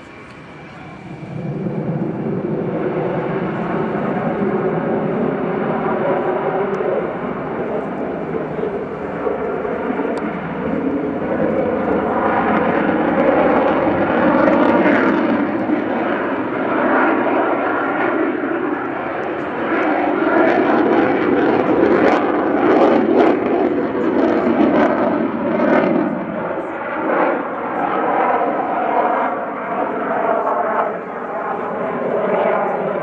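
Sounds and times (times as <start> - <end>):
fighter jet afterburner roar: 0.0 - 33.0
jet engine crackle: 0.0 - 33.0.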